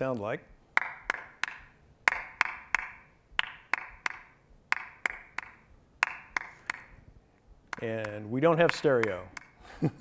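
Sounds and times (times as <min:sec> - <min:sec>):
people clapping a rhythm: 0:00.7 - 0:07.0, 0:07.7 - 0:09.6.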